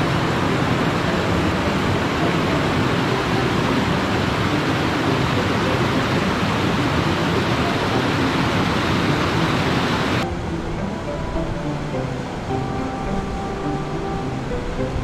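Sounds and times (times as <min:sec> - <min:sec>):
background music: 0:00.0 - 0:15.0
soft stream flowing: 0:00.0 - 0:15.0
water rushing over boulders: 0:00.0 - 0:15.0.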